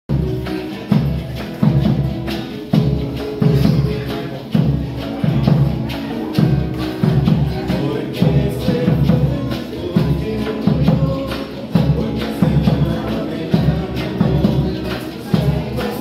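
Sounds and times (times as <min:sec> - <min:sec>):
acoustic guitar: 0:00.1 - 0:16.0
bass drum beating: 0:00.1 - 0:16.0
marimba: 0:00.1 - 0:16.0.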